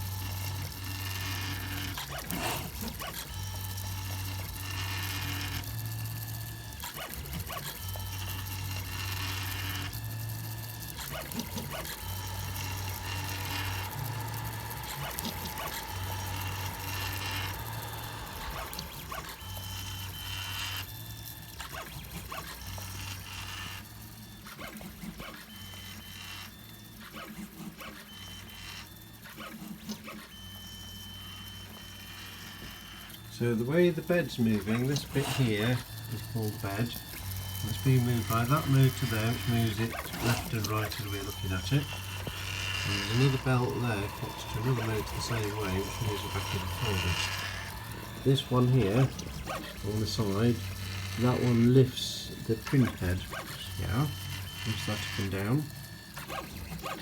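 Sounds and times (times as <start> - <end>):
stepper motors whining: 0.0 - 57.0.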